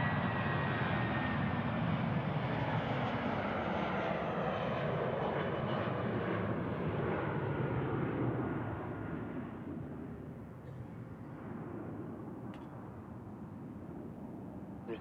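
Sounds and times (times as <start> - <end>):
jet airliner engines climbing: 0.0 - 15.0.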